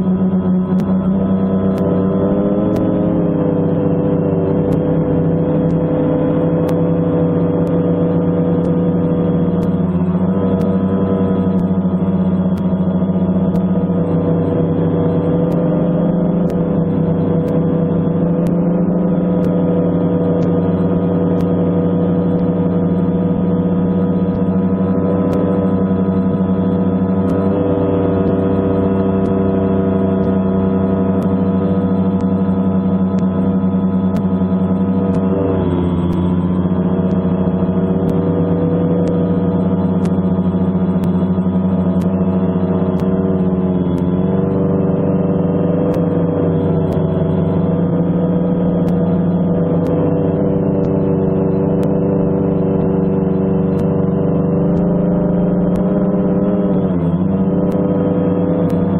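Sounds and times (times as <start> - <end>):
drone motors humming: 0.0 - 58.9.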